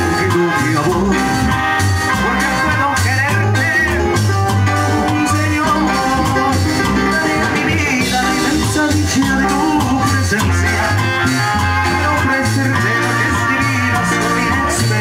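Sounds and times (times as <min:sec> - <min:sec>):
bass line: 0:00.0 - 0:15.0
drum kit: 0:00.0 - 0:15.0
electronic keyboards: 0:00.0 - 0:15.0
man singing into microphone: 0:00.0 - 0:15.0.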